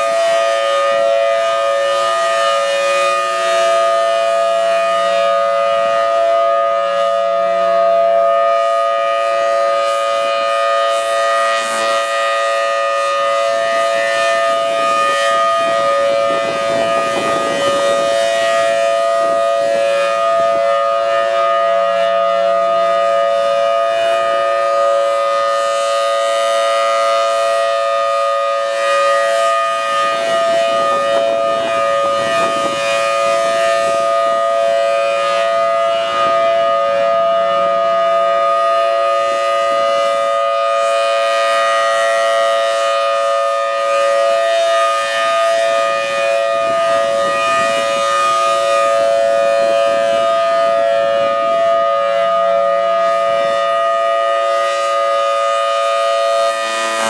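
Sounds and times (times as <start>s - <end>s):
rotating warning siren steady tone: 0.0s - 57.0s.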